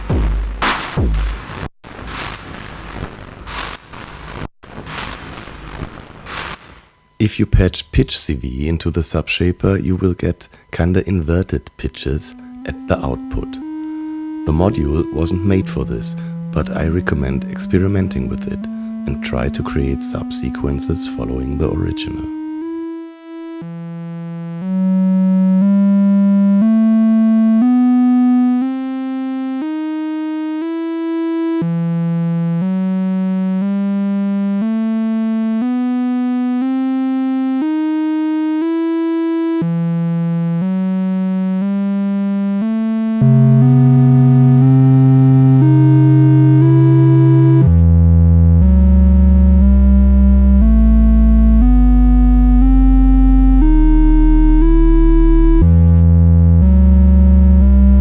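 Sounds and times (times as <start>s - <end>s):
deep low synth tones: 9.6s - 58.0s
synthesizer note sequence: 10.9s - 58.0s.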